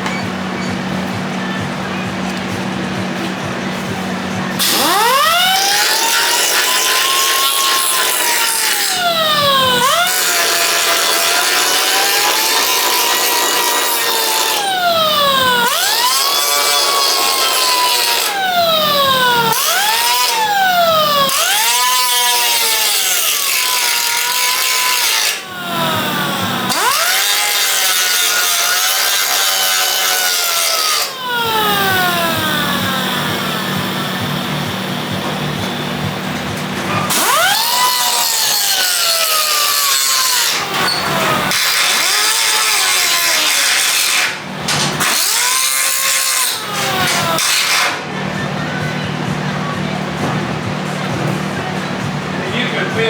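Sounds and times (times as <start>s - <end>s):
angle grinder grinding metal: 4.6s - 48.0s.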